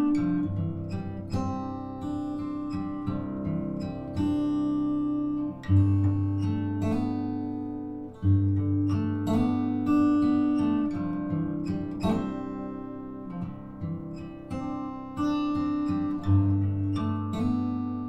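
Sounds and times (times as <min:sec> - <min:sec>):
acoustic guitar picked and strummed: 0:00.0 - 0:18.0.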